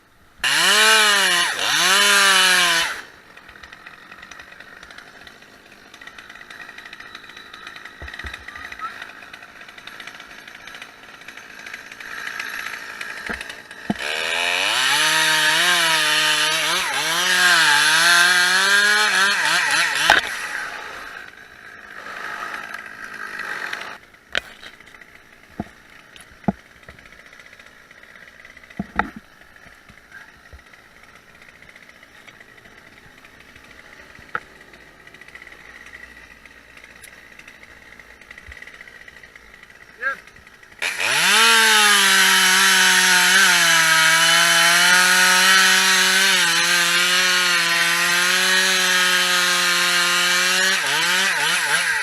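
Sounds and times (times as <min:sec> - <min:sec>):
chainsaw cutting wood: 0:00.4 - 0:52.0.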